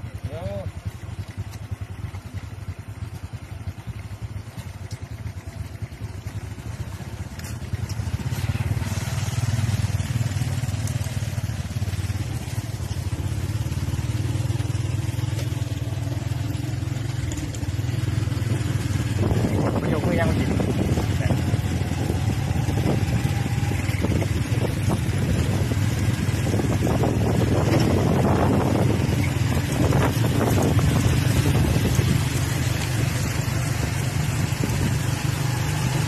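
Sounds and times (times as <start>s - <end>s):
small motorcycle engine droning: 0.0s - 36.0s.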